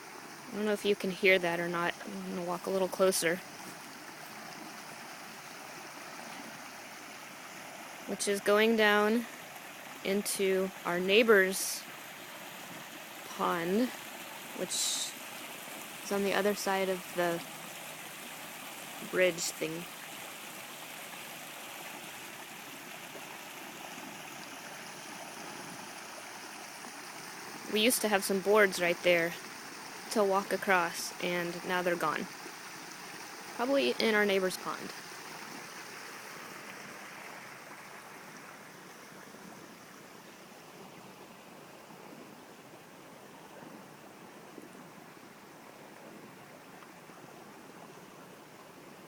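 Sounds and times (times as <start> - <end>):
water rushing into creek: 0.0 - 49.0.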